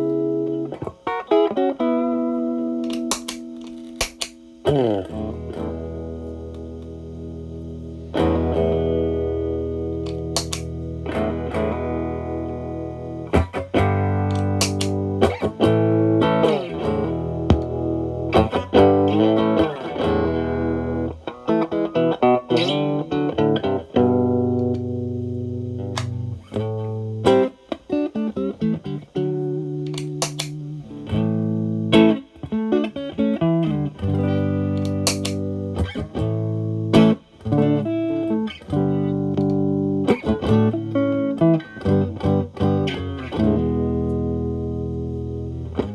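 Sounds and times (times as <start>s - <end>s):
overdriven electric guitar: 0.0s - 45.9s.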